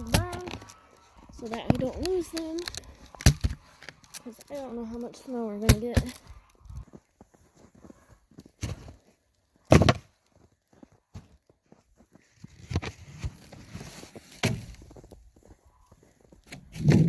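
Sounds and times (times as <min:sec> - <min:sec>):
crunching and rustling: 0:00.0 - 0:17.0
footsteps in snow: 0:00.2 - 0:09.5, 0:10.3 - 0:17.0.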